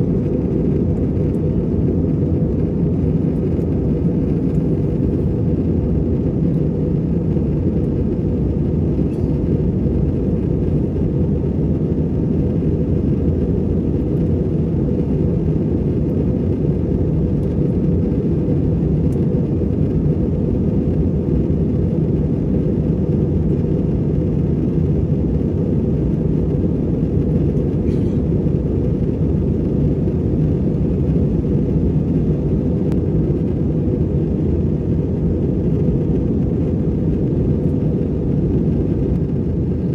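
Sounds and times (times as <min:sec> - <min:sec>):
aircraft cabin rumble: 0:00.0 - 0:39.9
faint steady hum: 0:00.0 - 0:39.9.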